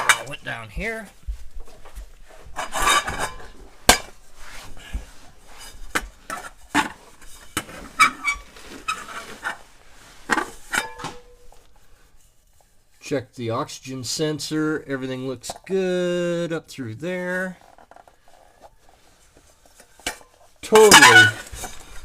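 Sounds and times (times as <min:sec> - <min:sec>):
rustling: 0:00.0 - 0:13.2, 0:17.2 - 0:22.0.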